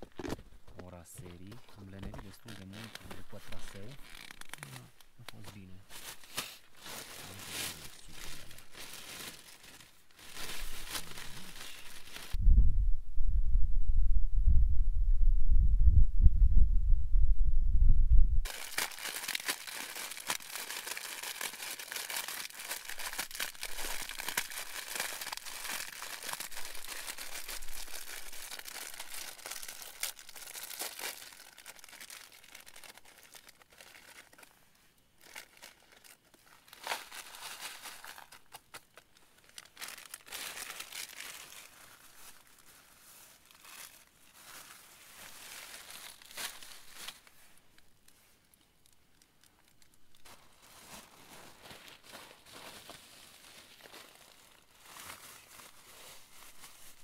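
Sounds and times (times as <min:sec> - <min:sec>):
plastic wrapping crinkling: 0:00.0 - 0:12.4, 0:18.4 - 0:57.0.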